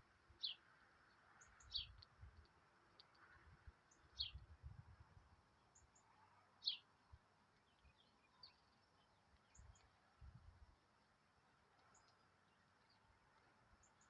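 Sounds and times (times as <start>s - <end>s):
songbird chirps: 0.0s - 4.5s, 5.4s - 14.0s.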